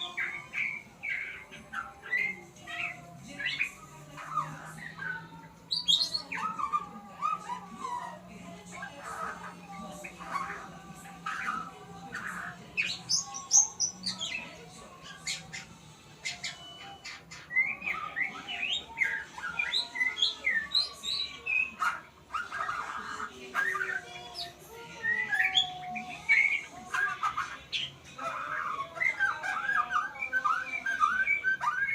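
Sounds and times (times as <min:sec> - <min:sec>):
songbird singing: 0:00.0 - 0:31.9.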